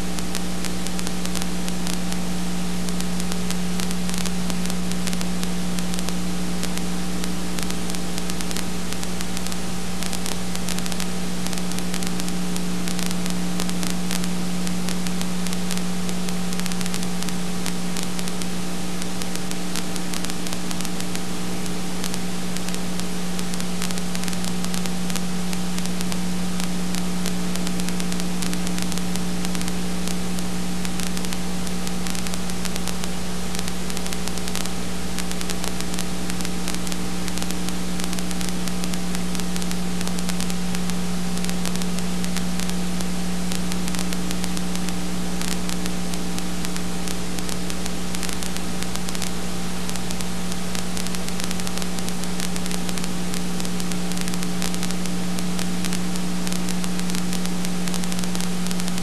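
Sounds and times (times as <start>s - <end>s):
light crackle: 0.0s - 59.0s
low electrical hum: 0.0s - 59.0s
steady hiss: 0.0s - 59.0s.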